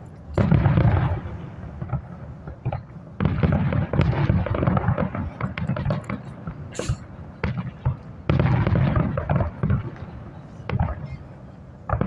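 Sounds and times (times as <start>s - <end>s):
crackling firework pops: 0.3s - 11.1s
firework bursts booming: 0.4s - 11.2s.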